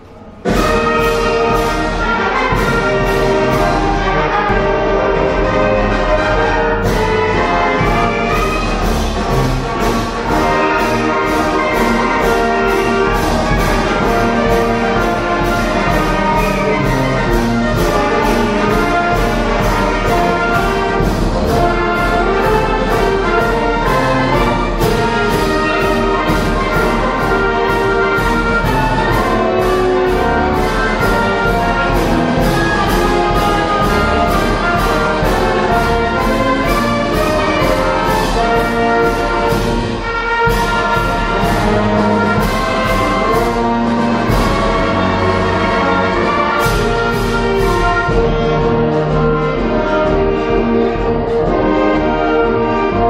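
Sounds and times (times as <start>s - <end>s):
concert band playing a march: 0.0s - 53.0s.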